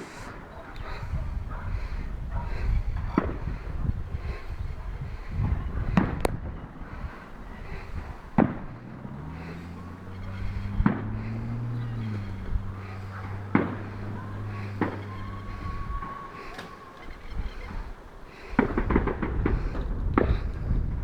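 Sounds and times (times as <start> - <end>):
distant fireworks bangs: 0.0 - 21.0.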